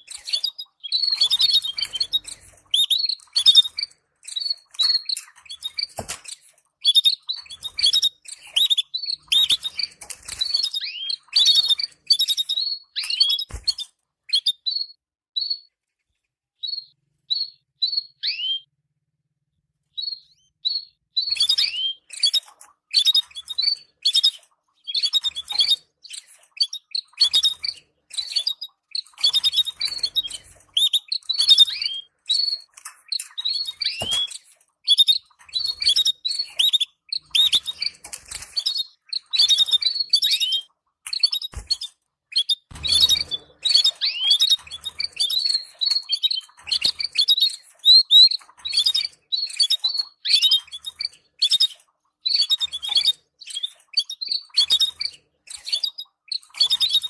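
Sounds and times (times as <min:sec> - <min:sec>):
canaries chirping: 0:00.0 - 0:15.7, 0:16.6 - 0:18.7, 0:19.9 - 0:57.0.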